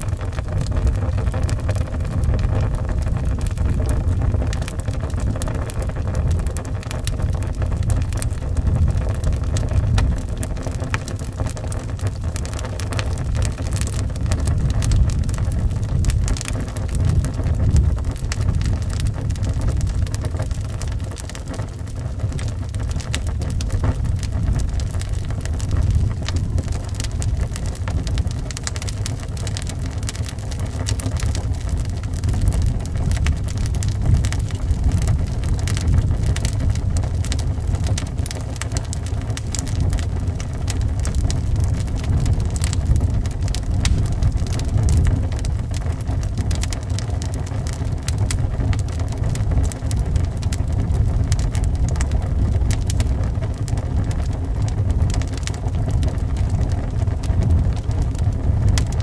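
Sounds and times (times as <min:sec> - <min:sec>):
wind rumble: 0:00.0 - 0:59.0
wood fire crackling: 0:00.0 - 0:59.0.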